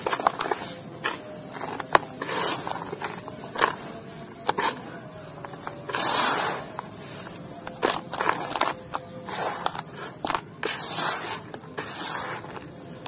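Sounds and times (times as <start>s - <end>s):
dirt crunching in hand: 0.0s - 13.0s
grit clicks: 0.0s - 13.0s.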